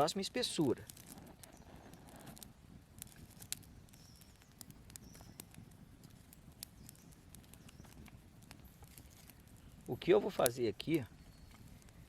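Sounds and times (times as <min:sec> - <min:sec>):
twig campfire crackling: 0:00.0 - 0:12.0.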